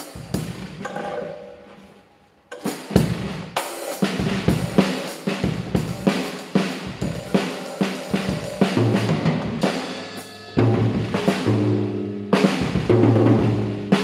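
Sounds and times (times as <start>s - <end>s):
drum kit beat: 0.0s - 14.0s
drum ringing out: 0.0s - 14.0s.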